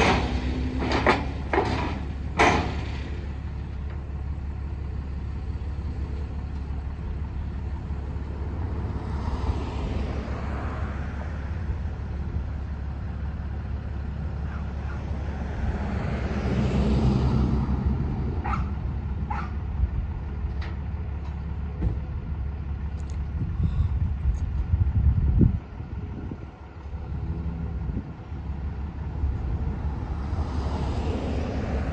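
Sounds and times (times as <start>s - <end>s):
steady low traffic rumble: 0.0s - 31.9s
vehicles passing by: 0.0s - 31.9s.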